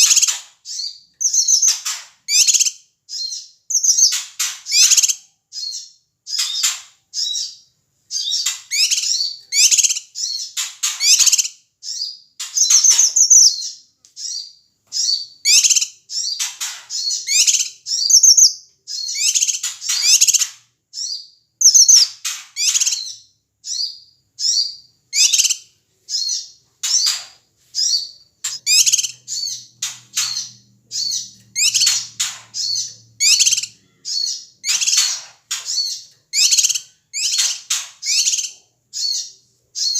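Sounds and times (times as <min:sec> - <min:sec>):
bulbul harsh chattering calls: 0:00.0 - 0:39.9.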